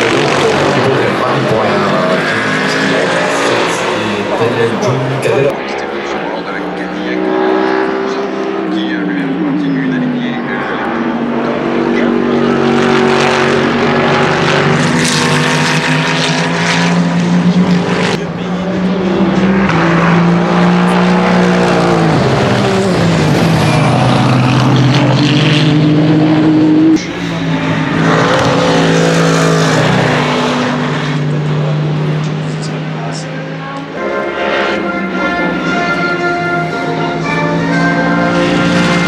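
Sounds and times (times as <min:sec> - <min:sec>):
race car engines passing: 0:00.0 - 0:39.0.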